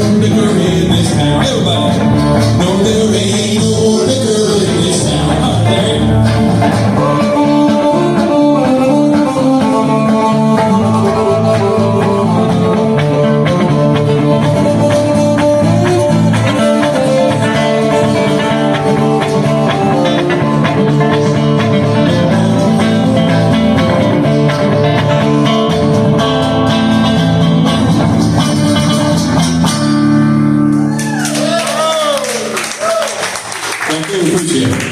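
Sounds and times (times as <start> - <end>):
acoustic guitars picking: 0.0 - 31.6
bass line: 0.0 - 32.5.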